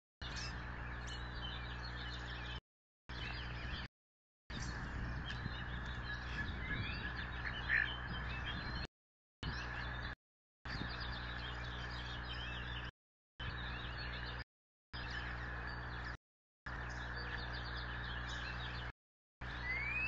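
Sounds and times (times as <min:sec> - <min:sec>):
distant birds chirping: 0:00.2 - 0:03.9, 0:04.5 - 0:14.4, 0:15.0 - 0:20.0.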